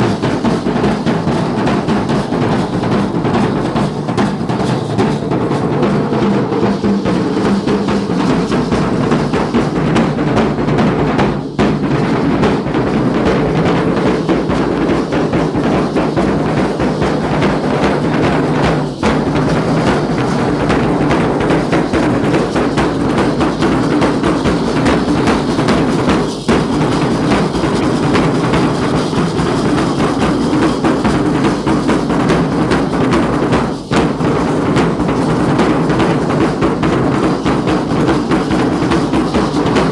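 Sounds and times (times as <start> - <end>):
drums beating steadily: 0.0 - 39.9.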